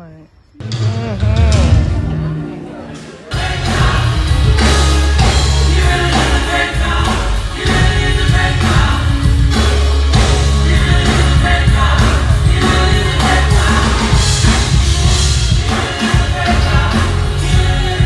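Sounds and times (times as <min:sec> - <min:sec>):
band with heavy bass: 0:00.6 - 0:18.0
voices singing gospel: 0:00.6 - 0:18.0.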